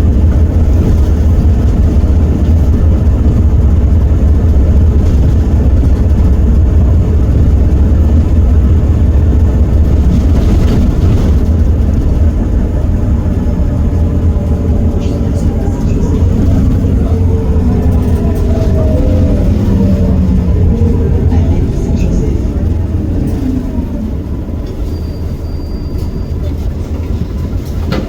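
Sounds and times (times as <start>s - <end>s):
bus diesel engine droning: 0.0s - 28.0s.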